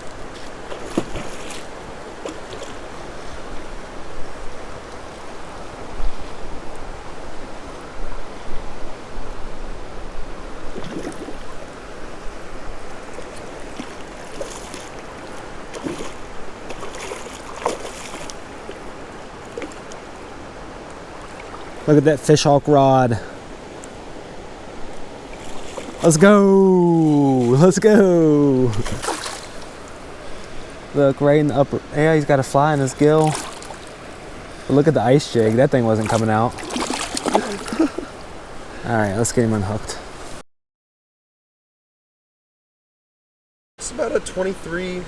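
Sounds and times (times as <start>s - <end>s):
creek water rushing: 0.0s - 40.4s, 43.8s - 45.0s.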